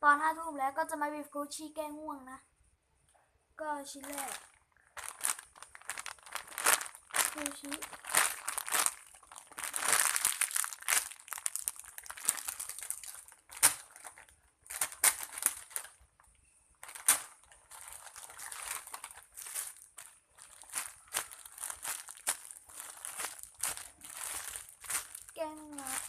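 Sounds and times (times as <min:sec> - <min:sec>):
squishy toy crinkling: 0:04.0 - 0:16.2, 0:16.8 - 0:26.0.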